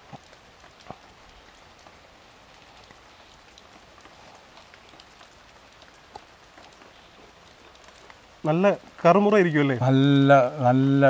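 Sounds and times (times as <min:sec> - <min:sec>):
light rain patter: 0:00.0 - 0:11.0.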